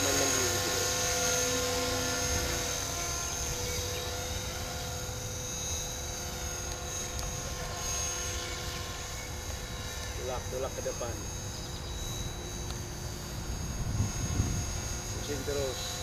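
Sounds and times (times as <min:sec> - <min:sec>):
rc helicopter motor whine: 0:00.0 - 0:16.0.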